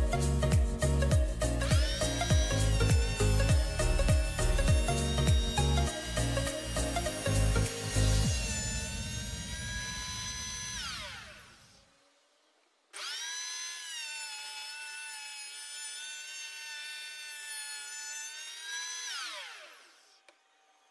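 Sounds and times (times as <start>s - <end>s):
electric planer motor whine: 0.0s - 20.9s.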